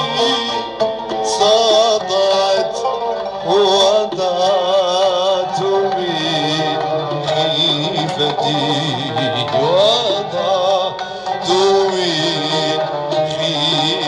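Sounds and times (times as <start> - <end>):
man singing melismatic line: 0.0 - 14.0.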